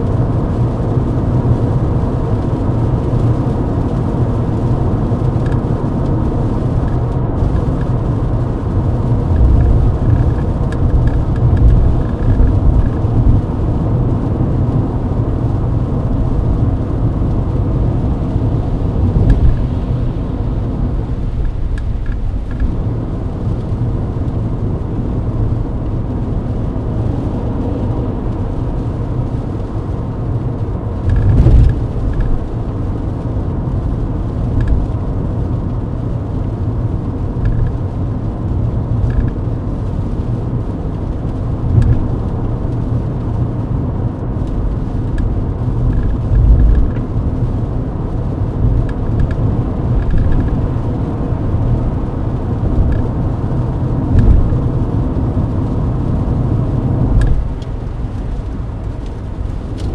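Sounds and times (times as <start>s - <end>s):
car road and engine rumble: 0.0s - 59.9s
tyre noise on wet road: 0.0s - 59.9s.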